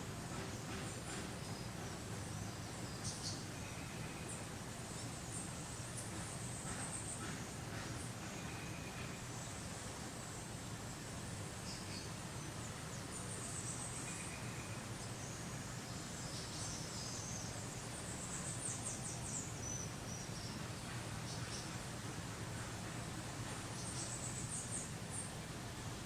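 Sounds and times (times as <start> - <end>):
steady hiss and low hum: 0.0 - 26.0.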